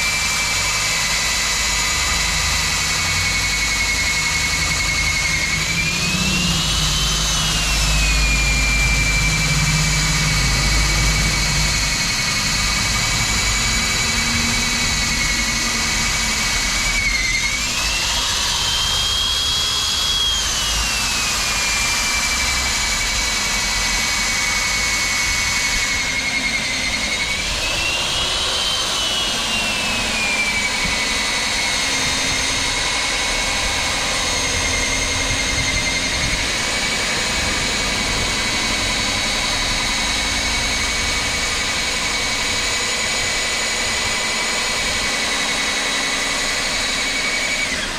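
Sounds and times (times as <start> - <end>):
core drill motor whine: 0.0 - 47.9.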